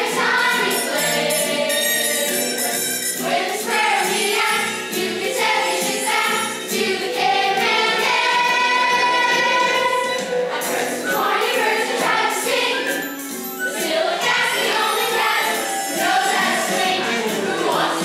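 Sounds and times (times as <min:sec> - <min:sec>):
children's chorus singing: 0:00.0 - 0:13.0, 0:13.7 - 0:18.0
instrumental accompaniment: 0:00.0 - 0:18.0.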